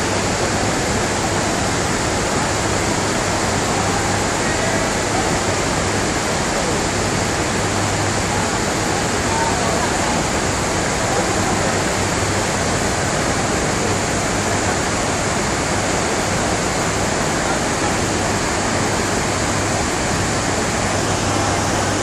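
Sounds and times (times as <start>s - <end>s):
water rushing over weir: 0.0s - 22.0s.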